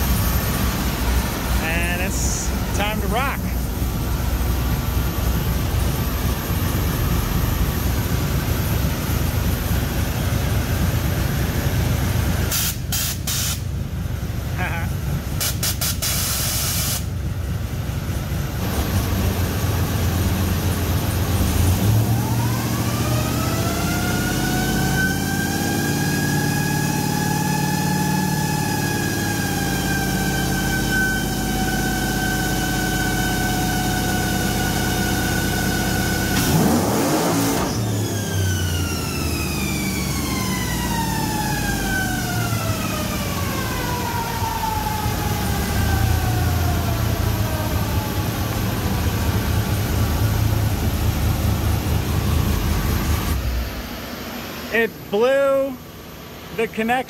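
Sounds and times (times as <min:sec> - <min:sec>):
engine whine on a dyno: 0:00.0 - 0:56.8.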